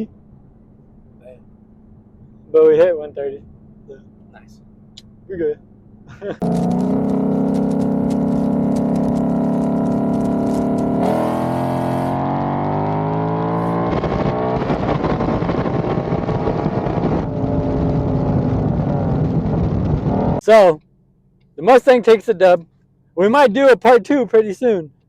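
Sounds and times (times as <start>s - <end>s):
car engine revving: 0.0s - 20.4s.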